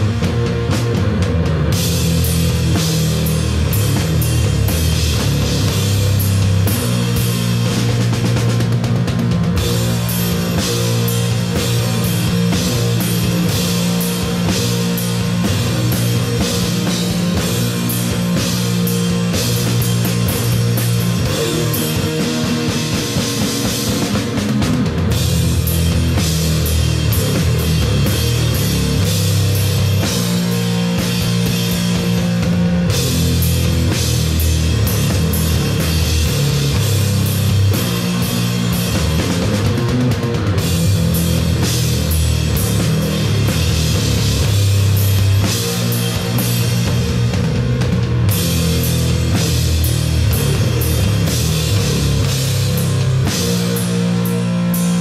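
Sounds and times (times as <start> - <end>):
drum kit beat: 0.0 - 55.0
guitar: 0.0 - 55.0
rock music: 0.0 - 55.0.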